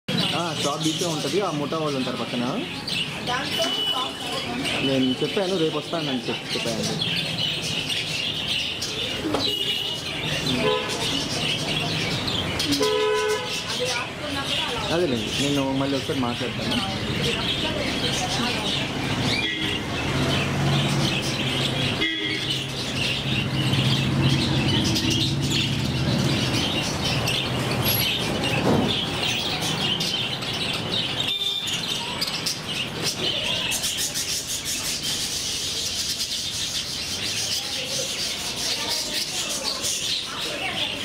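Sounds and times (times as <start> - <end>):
budgerigars chattering and chirping: 0.1 - 41.0.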